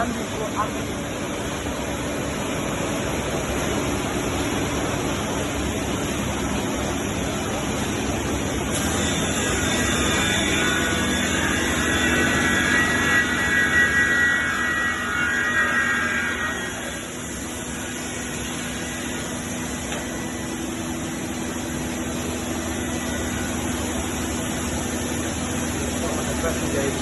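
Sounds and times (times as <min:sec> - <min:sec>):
high whine with steady tones: 0:00.0 - 0:27.0
machining centre rushing noise: 0:00.0 - 0:27.0.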